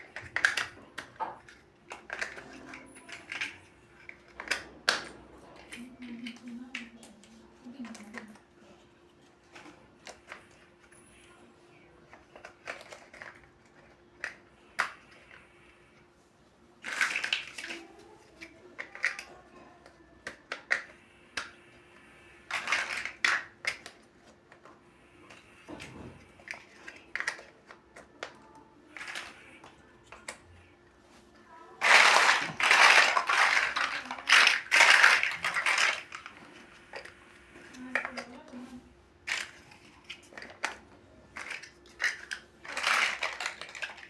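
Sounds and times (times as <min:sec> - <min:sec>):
plastic blocks clicking and clattering: 0:00.0 - 0:08.4, 0:12.1 - 0:15.4, 0:16.8 - 0:30.6, 0:31.8 - 0:44.0.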